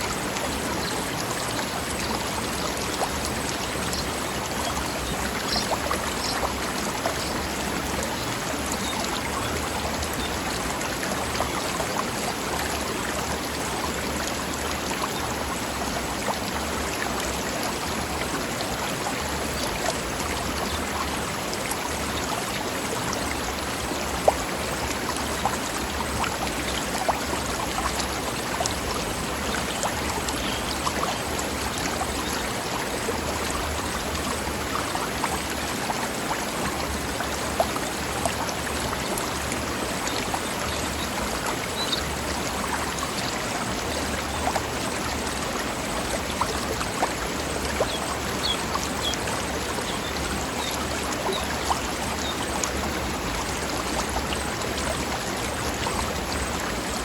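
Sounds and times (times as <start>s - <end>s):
stream splashing over rocks: 0.0s - 57.0s.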